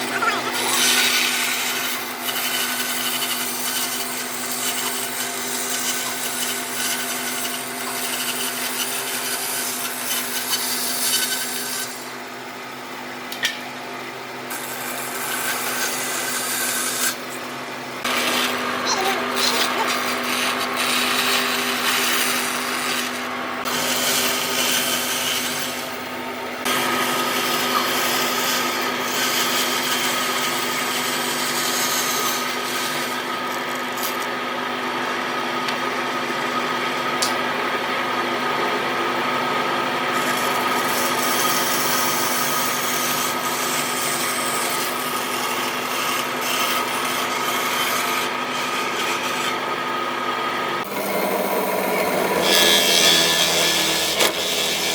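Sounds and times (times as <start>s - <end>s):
power tool rasping wood: 0.0s - 12.4s, 14.4s - 35.8s, 38.5s - 54.9s.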